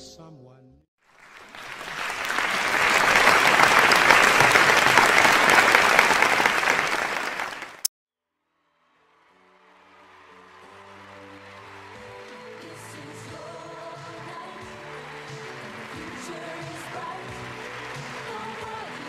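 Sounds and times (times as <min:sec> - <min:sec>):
audience applause: 0:01.0 - 0:07.9, 0:09.4 - 0:19.0.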